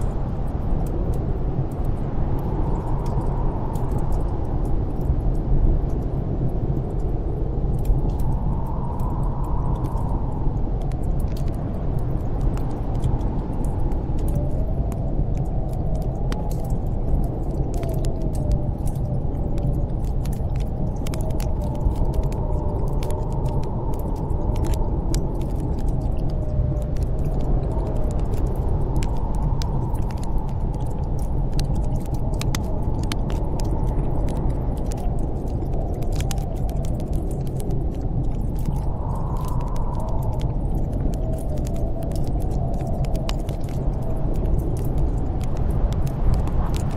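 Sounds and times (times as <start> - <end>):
howling snowstorm wind: 0.0 - 46.9
wood fire crackling: 5.9 - 46.9.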